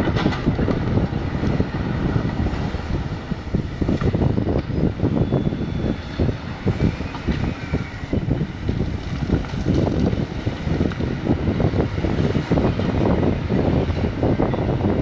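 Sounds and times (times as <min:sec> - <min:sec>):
excavator diesel engine running: 0:00.0 - 0:15.0
wind gusting on microphone: 0:00.0 - 0:15.0.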